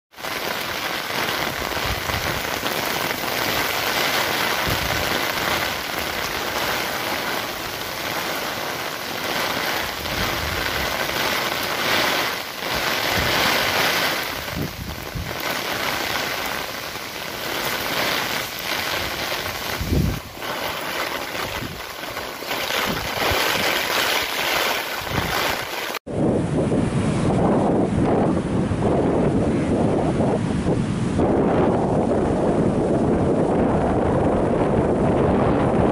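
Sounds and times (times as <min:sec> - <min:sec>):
heavy rain: 0:00.1 - 0:35.9
surf: 0:00.1 - 0:35.9
strong gusty wind: 0:00.2 - 0:35.9.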